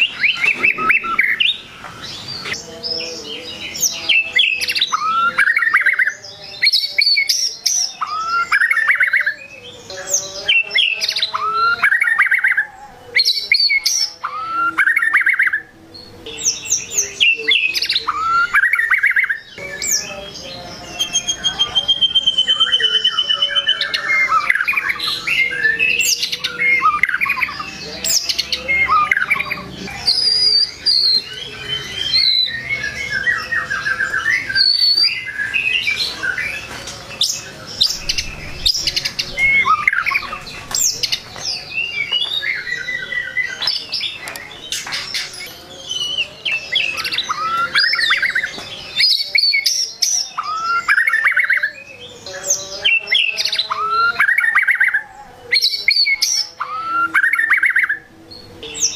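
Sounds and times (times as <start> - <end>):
songbird singing varied song: 0.0 - 58.9.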